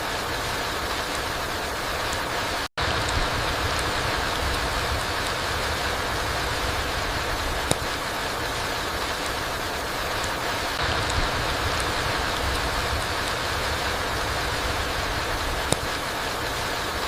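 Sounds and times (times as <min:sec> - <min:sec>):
rain on forest floor: 0:00.0 - 0:17.0
single raindrops: 0:02.1 - 0:17.0.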